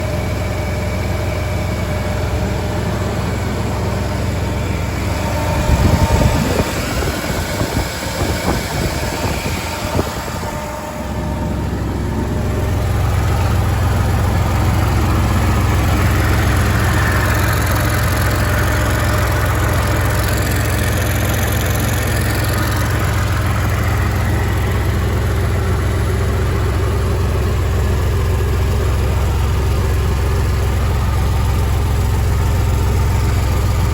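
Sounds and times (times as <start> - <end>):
pickup exhaust idling: 0.0 - 33.9.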